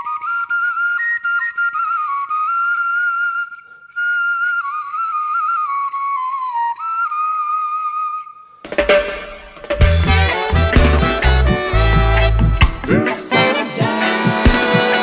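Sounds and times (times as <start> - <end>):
flute-like melody: 0.0 - 15.0.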